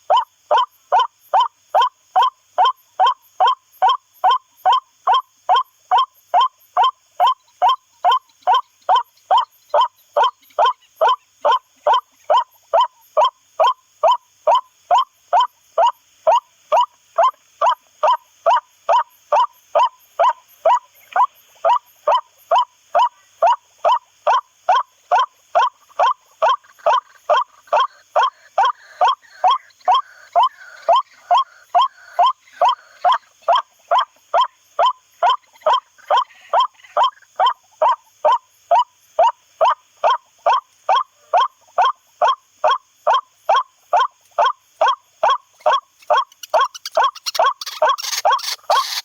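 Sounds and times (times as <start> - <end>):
waterhen call: 0.0 - 49.0.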